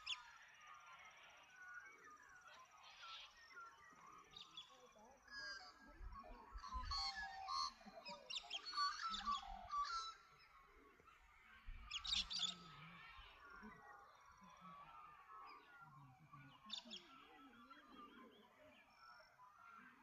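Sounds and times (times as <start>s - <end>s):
faint bird twittering: 0.0s - 20.0s.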